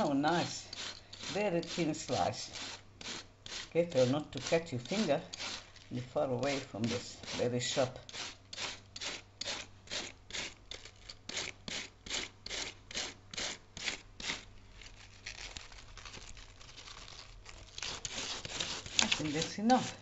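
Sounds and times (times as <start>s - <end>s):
cabbage rasping on a slicer: 0.0s - 20.0s.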